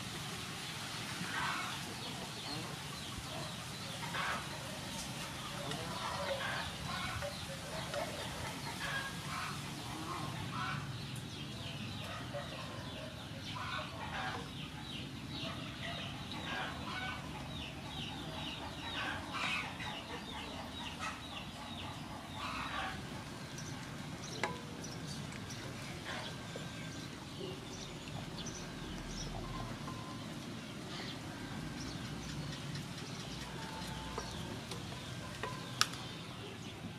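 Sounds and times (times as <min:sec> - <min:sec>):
chickens clucking: 0:01.2 - 0:36.9.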